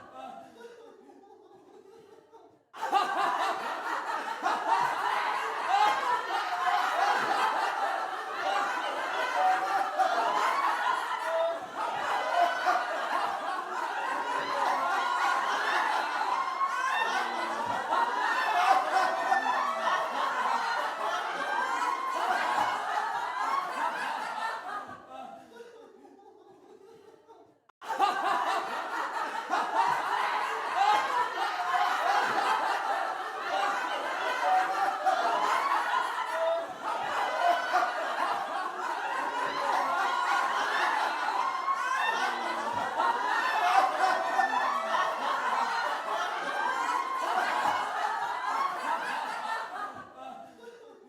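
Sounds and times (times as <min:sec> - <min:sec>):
people laughing: 0:00.0 - 0:51.0.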